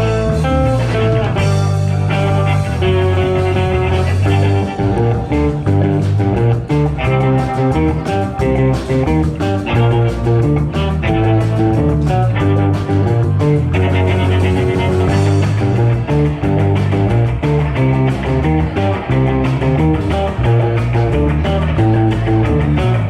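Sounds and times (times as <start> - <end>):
bass guitar line: 0.0 - 23.0
electric guitar picking notes: 0.0 - 23.0.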